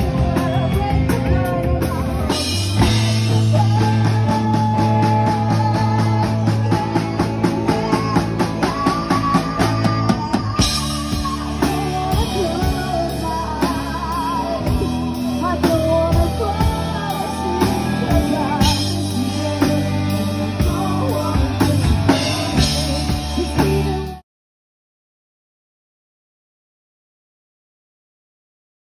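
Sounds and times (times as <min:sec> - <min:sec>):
drum-kit beat: 0:00.0 - 0:24.2
electric guitar: 0:00.0 - 0:24.2
keyboard: 0:00.0 - 0:24.2
person singing: 0:00.0 - 0:24.2.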